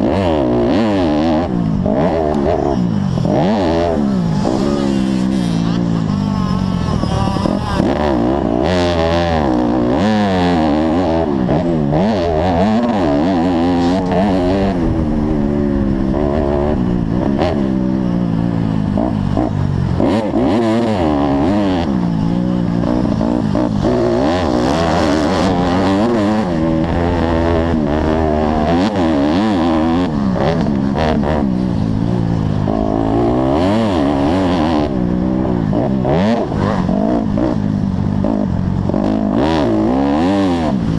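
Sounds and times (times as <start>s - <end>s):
motocross bike engine racing: 0.0s - 40.9s.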